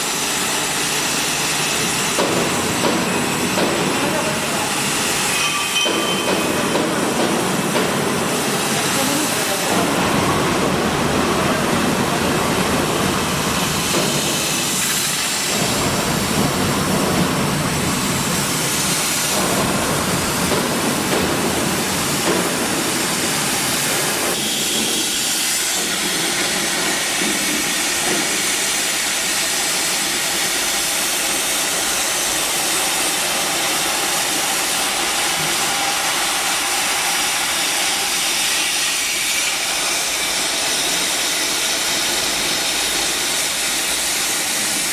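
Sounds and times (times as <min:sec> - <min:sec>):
cutting torch hissing: 0:00.0 - 0:44.9.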